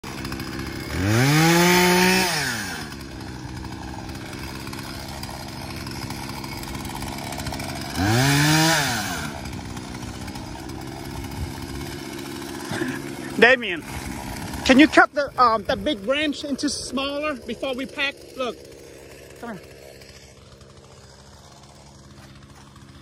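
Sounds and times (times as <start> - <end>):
chainsaw idling and revving: 0.0 - 23.0.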